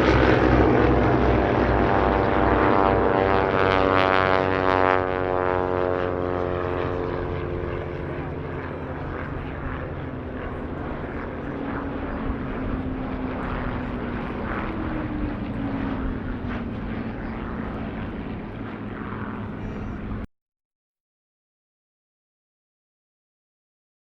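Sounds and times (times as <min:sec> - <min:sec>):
propeller plane engine droning: 0:00.0 - 0:20.3.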